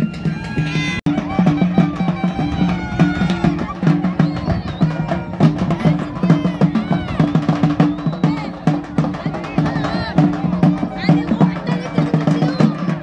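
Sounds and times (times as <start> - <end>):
drums beaten fast: 0.0 - 13.0
pitched melody line: 0.0 - 13.0.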